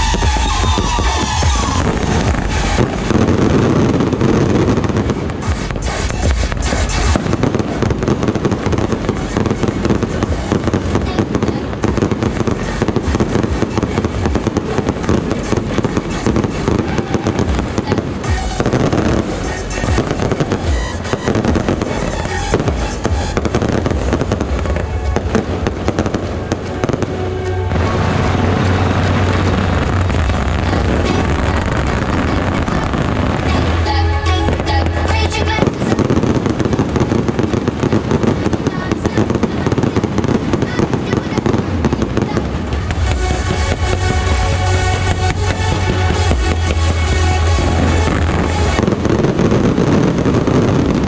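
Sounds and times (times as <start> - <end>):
fireworks crackling: 0.0 - 51.0
music playing: 0.0 - 51.0.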